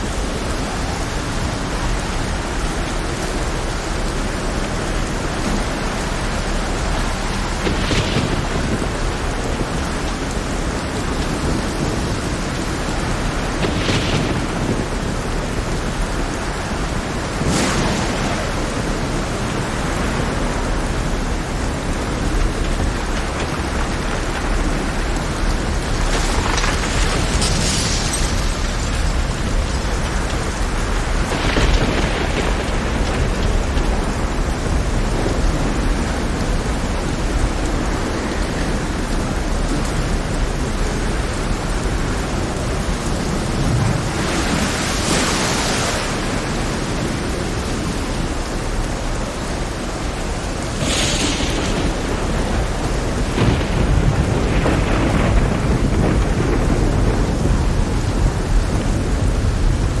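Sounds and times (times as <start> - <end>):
heavy rain: 0.0 - 60.0
low thunder rumble: 0.0 - 60.0
rough sea surging: 0.0 - 60.0.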